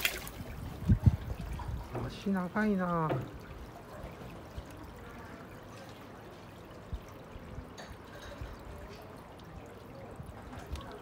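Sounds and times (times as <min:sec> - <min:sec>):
water pouring from bubbling spout: 0:00.0 - 0:11.0.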